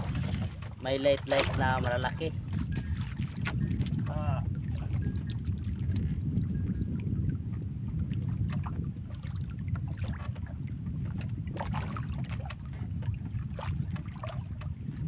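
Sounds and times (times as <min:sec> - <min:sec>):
water lapping against hull: 0:00.0 - 0:15.0
wind on microphone: 0:00.0 - 0:15.0.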